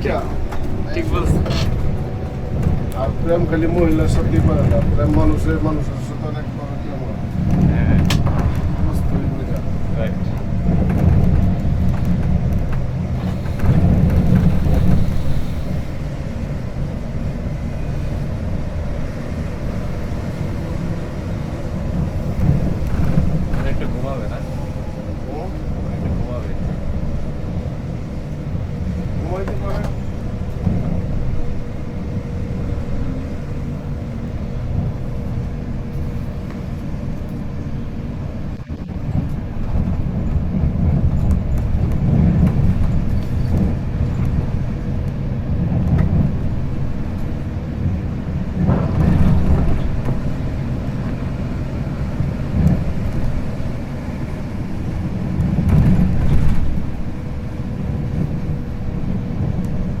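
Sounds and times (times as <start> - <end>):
diesel engine and road rumble: 0.0 - 60.0.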